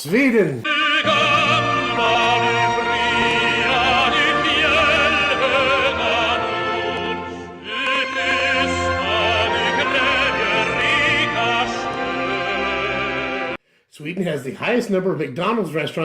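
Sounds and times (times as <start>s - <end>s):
operatic singing: 0.6s - 13.6s
sustained accompaniment: 0.6s - 13.6s.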